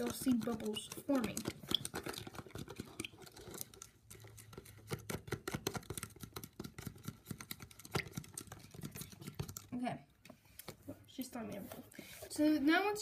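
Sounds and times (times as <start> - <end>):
straw stirring liquid: 0.0 - 12.4.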